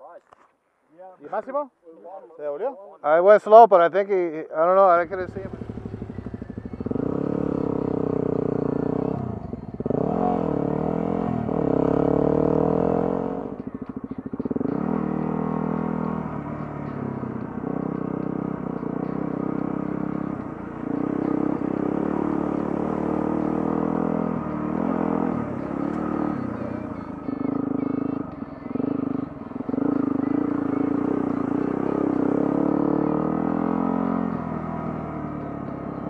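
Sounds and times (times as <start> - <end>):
motorcycle engine revving: 4.9 - 36.0.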